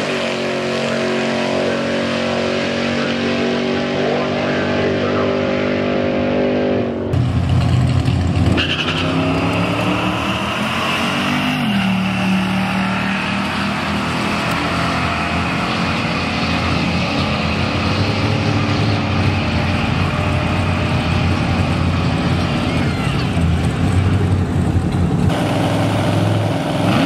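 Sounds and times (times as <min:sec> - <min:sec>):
car engines accelerating: 0:00.0 - 0:27.0.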